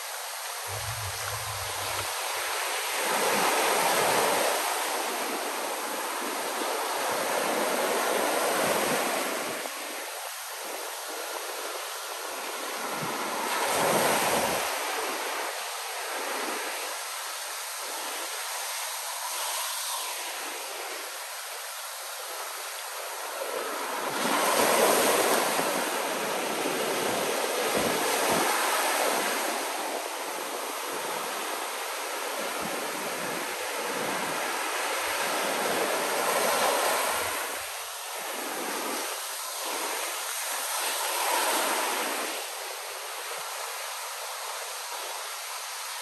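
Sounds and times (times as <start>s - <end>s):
ocean surf breaking on beach: 0.0s - 46.0s.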